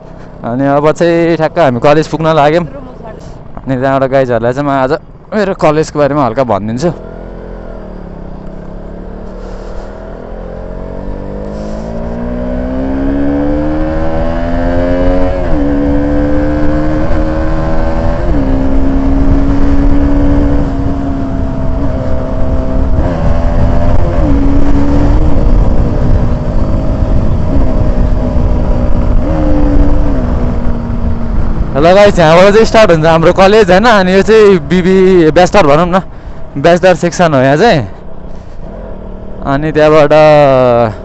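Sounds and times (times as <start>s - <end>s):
motorcycle engine accelerating: 6.5s - 41.0s.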